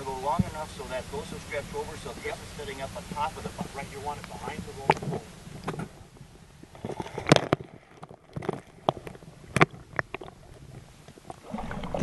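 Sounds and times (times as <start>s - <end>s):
water splashing and slapping: 0.0s - 12.0s.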